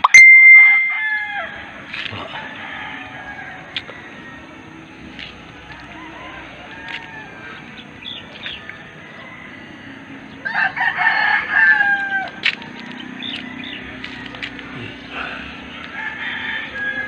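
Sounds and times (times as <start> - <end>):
rooster crowing: 0.7 - 4.9, 5.6 - 7.8, 8.6 - 17.0.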